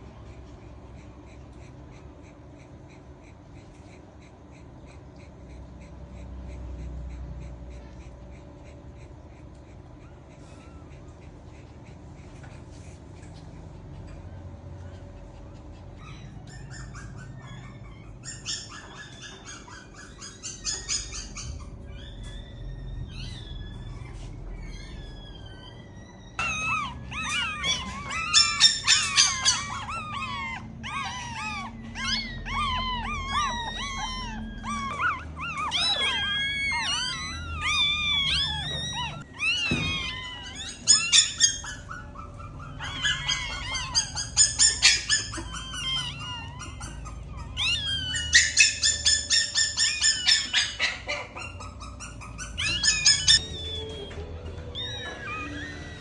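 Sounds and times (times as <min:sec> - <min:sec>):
dog whimpering and squealing: 0:00.0 - 0:56.0.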